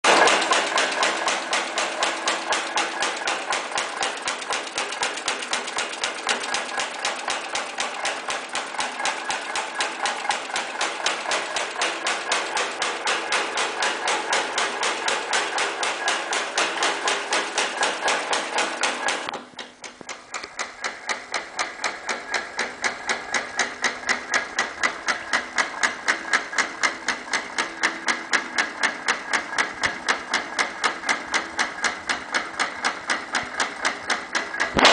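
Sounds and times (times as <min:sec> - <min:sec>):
punching press clacking: 0:00.1 - 0:34.9.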